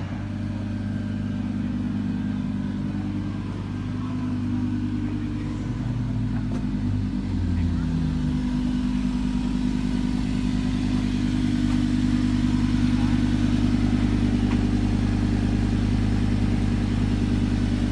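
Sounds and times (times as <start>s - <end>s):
car engine running steadily: 0.0s - 17.9s.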